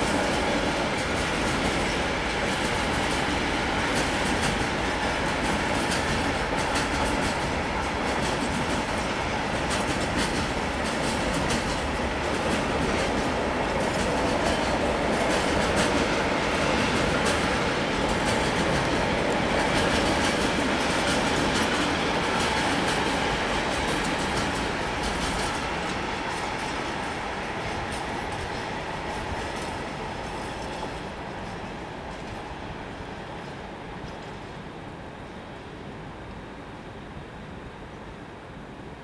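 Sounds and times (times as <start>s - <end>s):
wheels clacking over rail joints: 0.0s - 32.6s
train wheels rumbling on rail: 0.0s - 39.0s.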